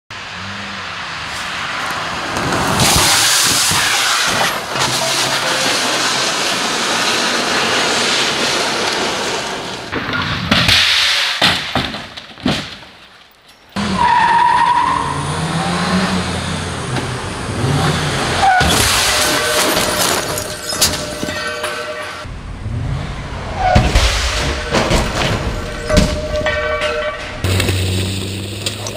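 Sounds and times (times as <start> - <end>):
street noise: 0.1 - 28.9
tyres skidding on gravel: 0.2 - 28.9.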